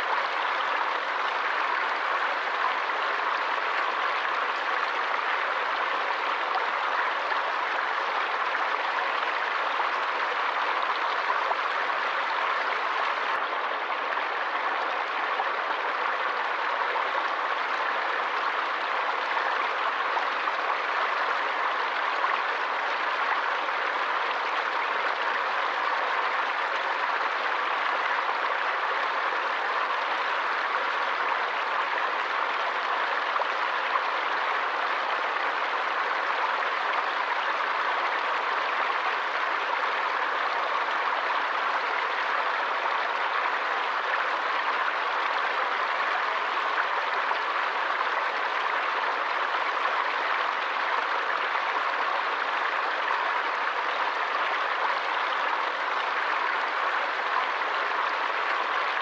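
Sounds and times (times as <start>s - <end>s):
stream water running and splashing: 0.0s - 59.0s.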